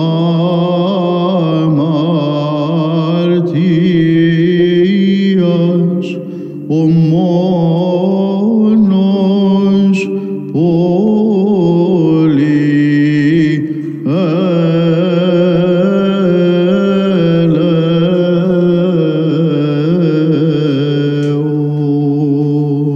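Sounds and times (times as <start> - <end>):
steady low drone: 0.0 - 22.9.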